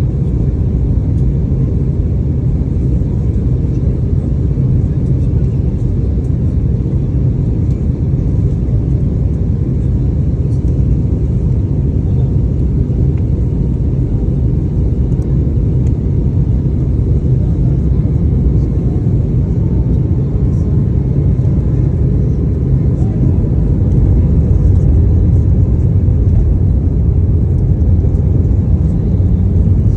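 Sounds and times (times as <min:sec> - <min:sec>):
airliner cabin engine rumble: 0:00.0 - 0:29.9.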